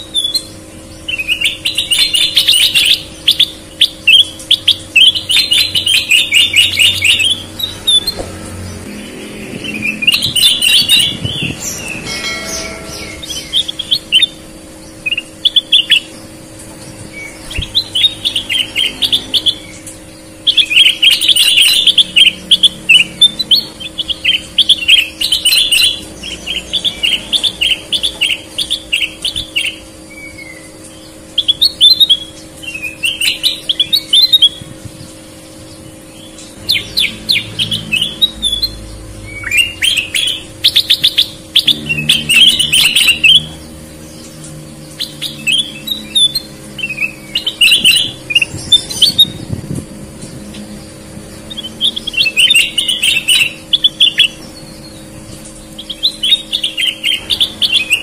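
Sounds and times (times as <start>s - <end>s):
bulbul singing: 0.0s - 58.0s.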